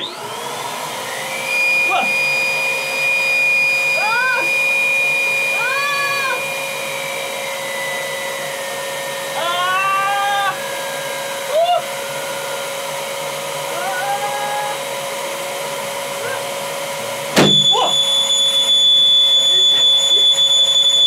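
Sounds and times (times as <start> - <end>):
rising and falling squeals: 0.0 - 15.2, 16.4 - 21.0
electric air pump whining: 0.0 - 21.0.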